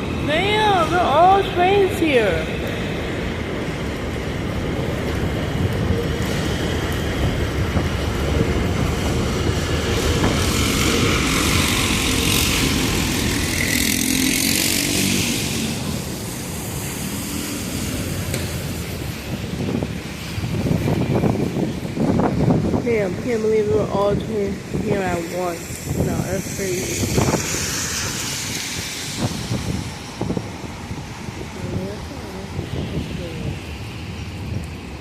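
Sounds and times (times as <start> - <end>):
street traffic: 0.0 - 35.0
subway trains rumbling: 0.0 - 35.0.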